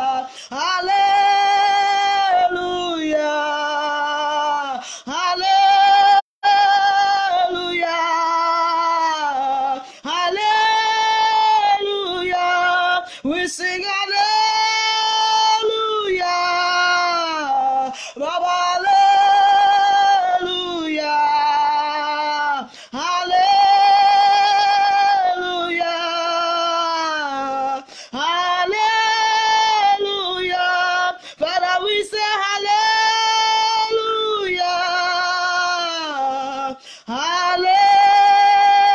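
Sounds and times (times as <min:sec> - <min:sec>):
woman singing worship song: 0:00.0 - 0:38.9.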